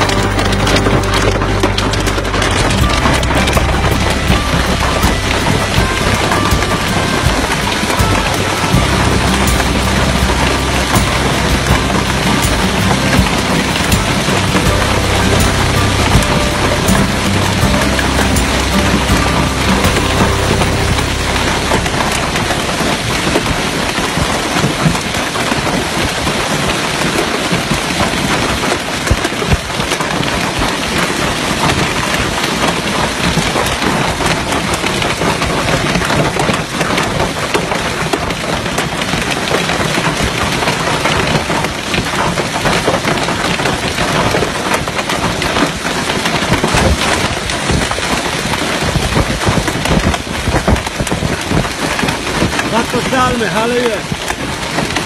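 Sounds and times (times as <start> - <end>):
hailstones pelting ground: 0.0 - 55.0.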